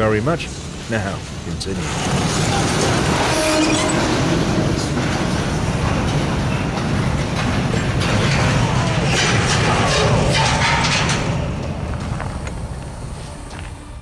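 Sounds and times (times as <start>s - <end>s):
train cars grinding and rumbling: 0.0s - 14.0s.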